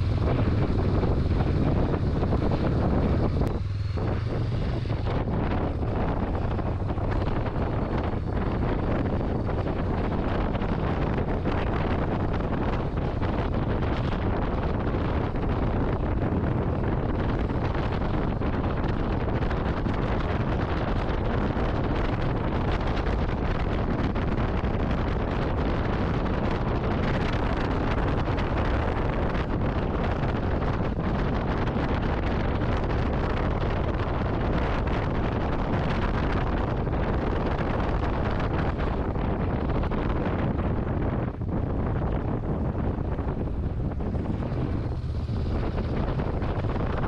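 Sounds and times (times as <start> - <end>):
motorcycle running: 0.0 - 47.0
wind buffeting microphone: 0.0 - 47.0.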